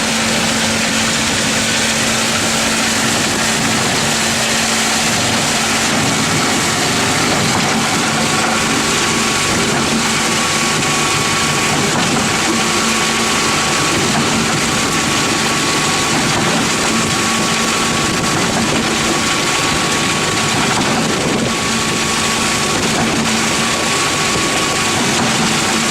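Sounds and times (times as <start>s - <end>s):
concrete pump running: 0.0s - 25.9s.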